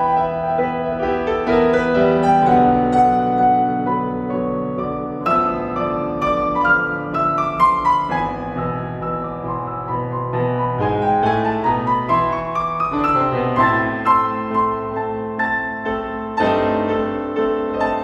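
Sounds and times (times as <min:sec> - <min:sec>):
classical piano music: 0:00.0 - 0:18.0.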